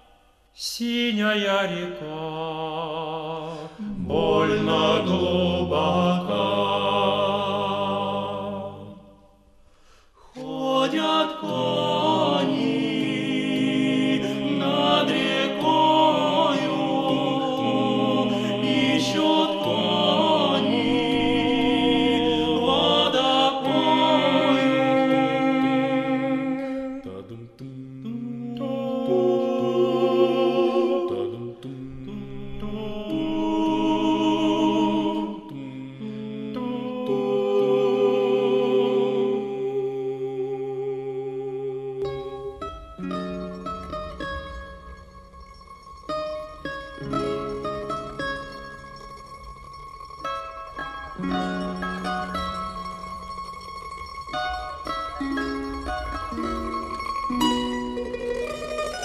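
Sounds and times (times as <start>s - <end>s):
choir singing slow chords: 0.0s - 54.0s, 54.8s - 58.9s.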